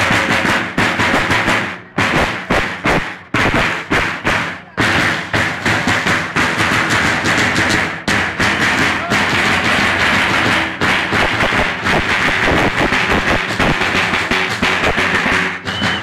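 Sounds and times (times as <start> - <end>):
crowd voices: 0.0 - 16.0
loud fast drumming: 0.0 - 16.0.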